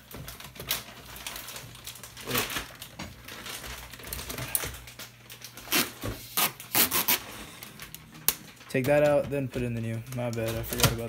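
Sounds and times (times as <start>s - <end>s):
plastic crinkling and rubbing: 0.0s - 11.0s.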